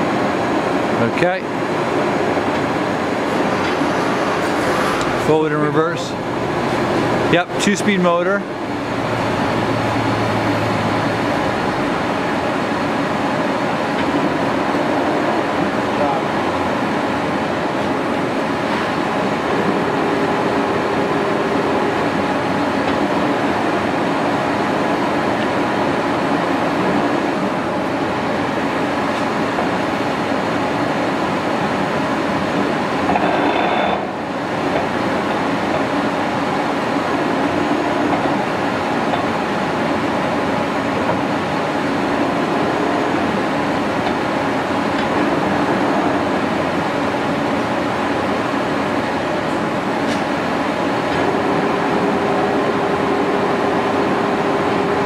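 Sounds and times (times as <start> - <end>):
lathe running with mechanical drone: 0.0 - 55.0.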